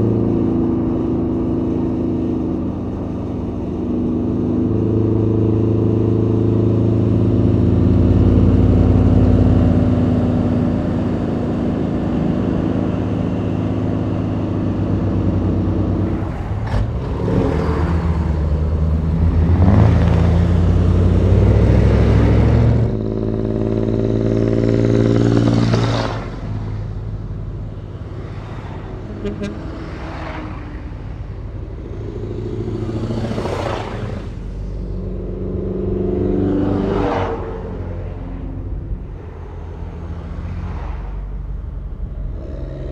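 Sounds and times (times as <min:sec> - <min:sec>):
diesel truck engines droning: 0:00.0 - 0:42.9
trucks driving past: 0:00.0 - 0:42.9.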